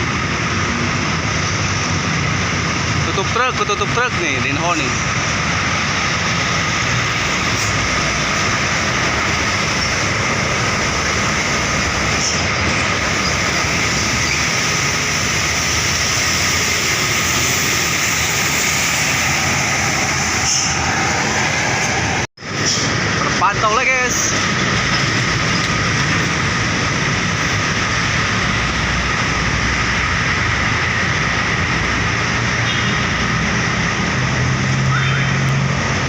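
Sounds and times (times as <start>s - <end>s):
heavy road traffic: 0.0s - 36.0s.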